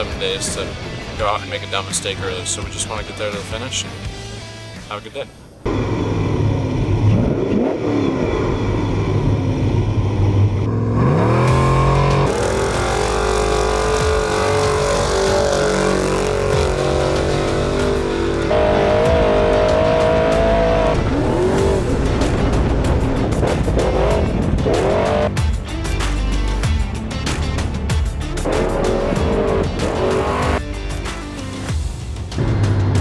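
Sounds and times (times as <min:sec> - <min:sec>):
truck engines revving: 0:00.0 - 0:33.0.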